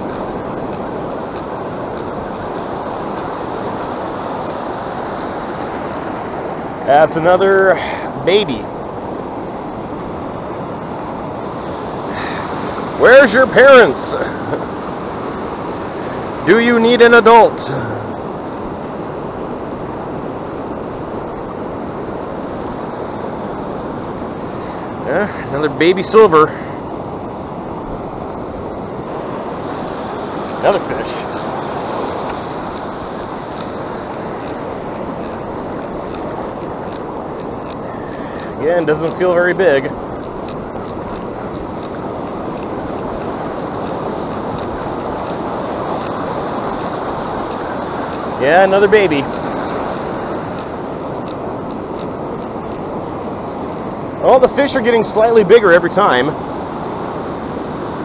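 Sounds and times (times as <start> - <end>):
faint ticks: 0.0 - 13.4, 14.0 - 58.0
ocean surf breaking: 0.0 - 58.0
wind on microphone: 0.0 - 58.0.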